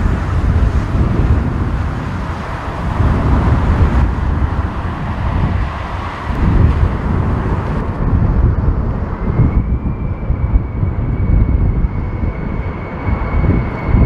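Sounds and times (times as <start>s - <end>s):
jet engine high whine: 0.0s - 14.0s
wind buffeting microphone: 0.0s - 14.0s.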